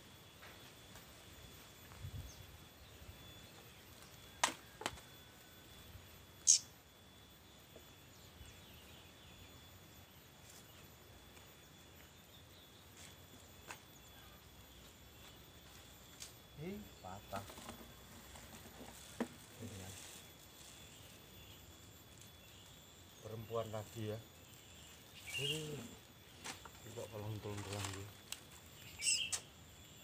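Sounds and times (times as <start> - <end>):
faint steady high whine: 0.0 - 30.0.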